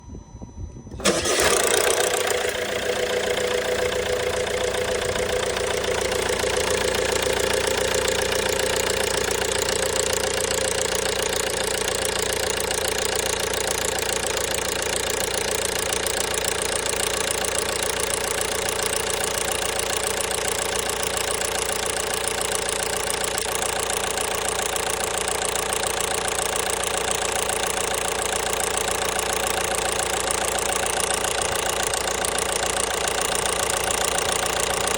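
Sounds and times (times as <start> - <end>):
diesel engine starting and idling: 0.9 - 34.9
engine knock: 1.0 - 34.9.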